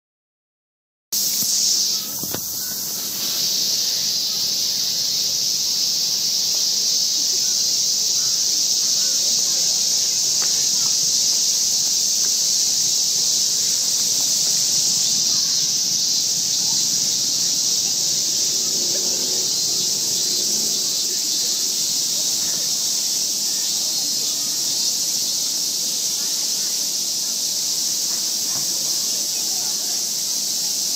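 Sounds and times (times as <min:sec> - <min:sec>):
high-pitched insect chorus: 0:01.2 - 0:30.9.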